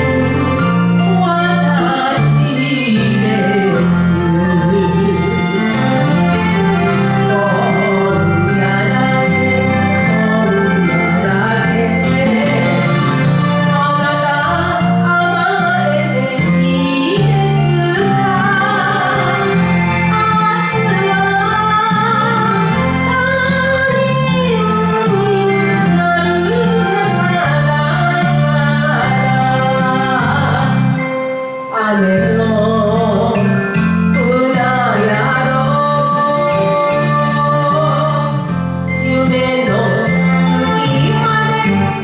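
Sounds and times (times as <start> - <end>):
karaoke backing track: 0.0 - 42.0
woman singing a ballad: 0.0 - 42.0.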